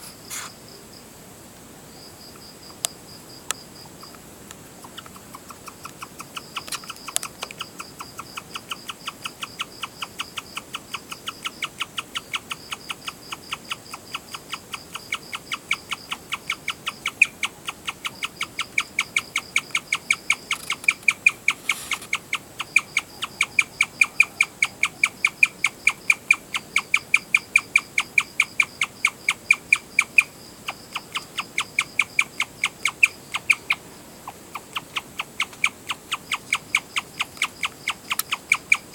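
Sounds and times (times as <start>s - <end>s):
guinea pig chirping: 4.8s - 38.9s.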